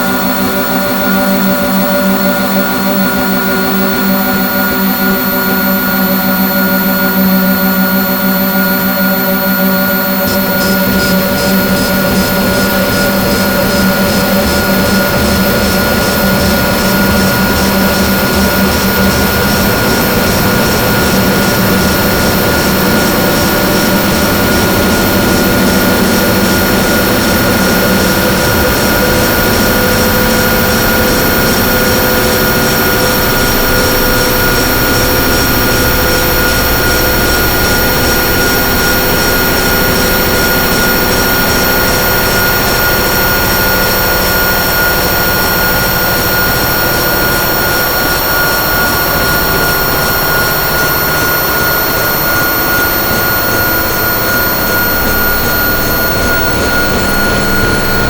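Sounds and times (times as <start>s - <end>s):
distorted noise drone: 0.0s - 58.0s
low buzz: 0.0s - 58.0s.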